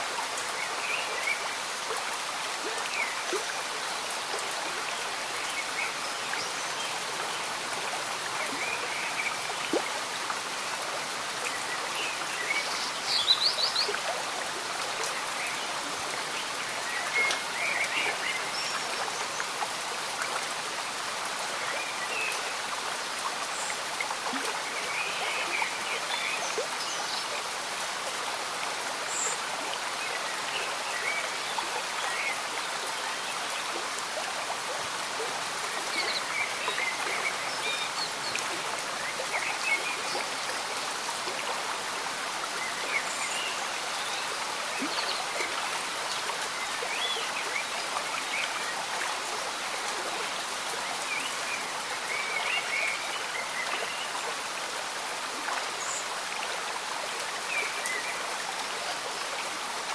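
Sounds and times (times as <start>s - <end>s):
light rain: 0.0s - 59.9s.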